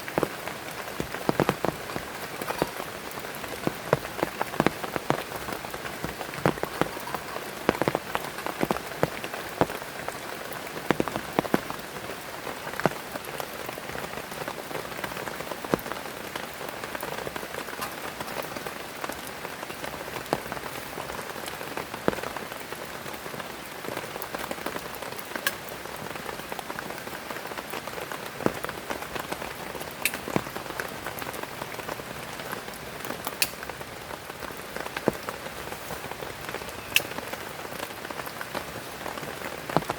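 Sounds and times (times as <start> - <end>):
close raindrop impacts: 0.0 - 39.9
heavy rain: 0.0 - 39.9.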